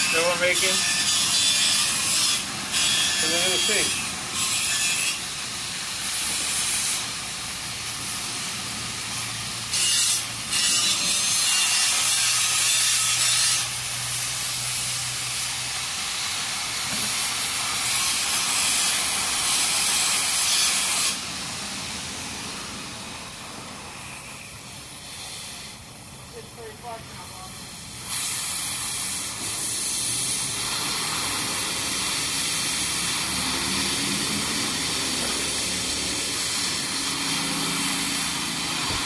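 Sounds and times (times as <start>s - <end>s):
steel being cut and ground: 0.0s - 39.0s.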